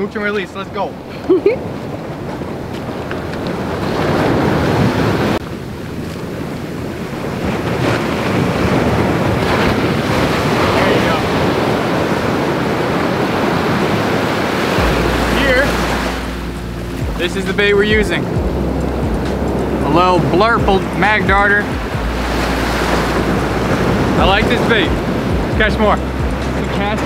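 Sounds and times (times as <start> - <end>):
surf washing up a beach: 0.0 - 27.0
wind buffeting microphone: 0.0 - 27.0.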